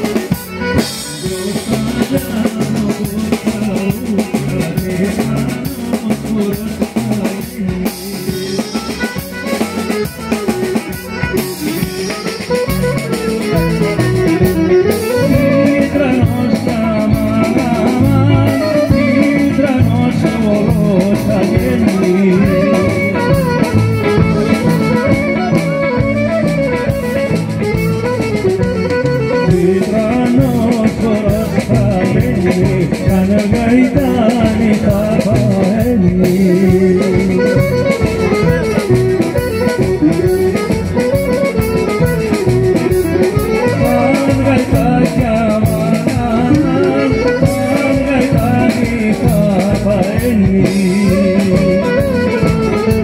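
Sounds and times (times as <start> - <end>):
drum kit beat: 0.0 - 53.0
folk dance music over loudspeakers: 0.0 - 53.0.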